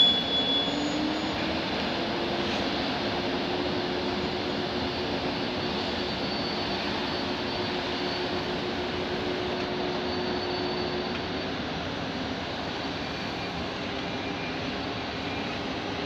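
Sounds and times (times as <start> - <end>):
train rolling past: 0.0 - 16.0.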